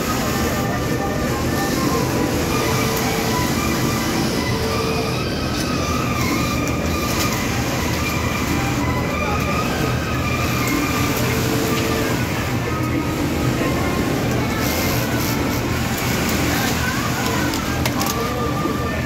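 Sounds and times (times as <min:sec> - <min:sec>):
sewing machines droning: 0:00.0 - 0:19.0.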